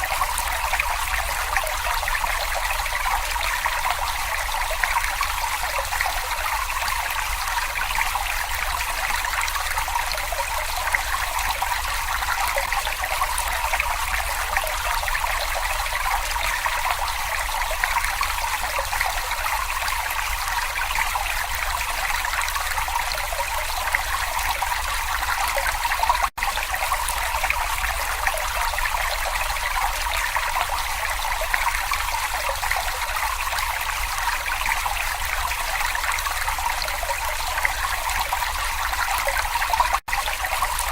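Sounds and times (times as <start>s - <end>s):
brook babbling over stones: 0.0s - 40.9s.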